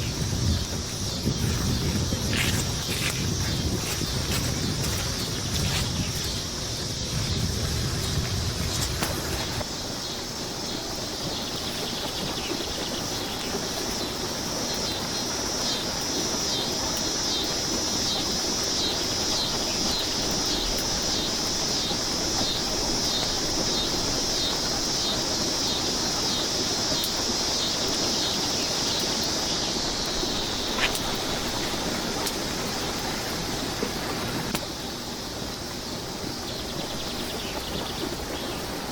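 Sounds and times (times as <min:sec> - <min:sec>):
insect pulsing buzz: 0:00.0 - 0:38.8
creek water flowing: 0:00.0 - 0:38.9.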